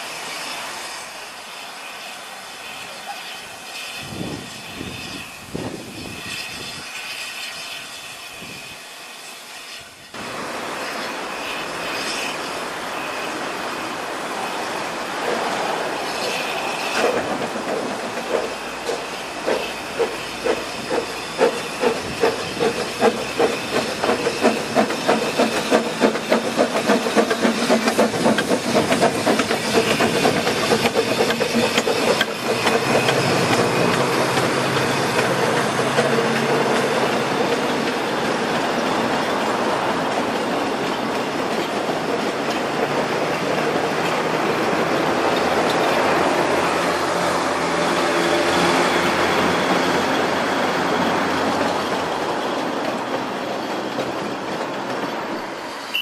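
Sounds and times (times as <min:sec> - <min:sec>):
steam hissing: 0:00.0 - 0:56.0
steam locomotive chuffing: 0:00.0 - 0:56.0.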